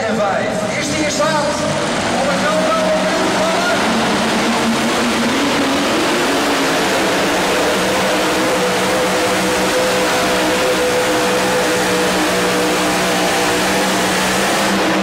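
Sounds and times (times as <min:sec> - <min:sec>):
engine running at full power: 0:00.0 - 0:15.0.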